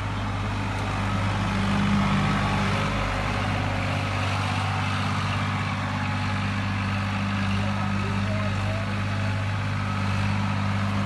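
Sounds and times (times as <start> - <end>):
tractor engine running steadily: 0.0 - 11.0.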